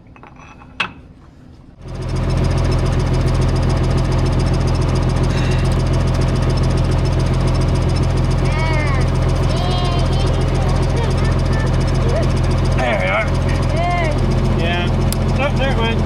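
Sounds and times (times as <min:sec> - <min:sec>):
tractor engine running: 0:01.8 - 0:16.0.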